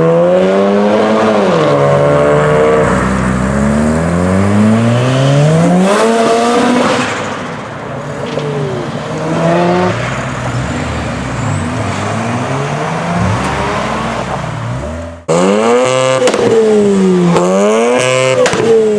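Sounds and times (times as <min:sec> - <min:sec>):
engine revving loudly: 0:00.0 - 0:07.0, 0:08.4 - 0:18.8
rotary engine accelerating: 0:00.0 - 0:07.2, 0:08.1 - 0:18.7.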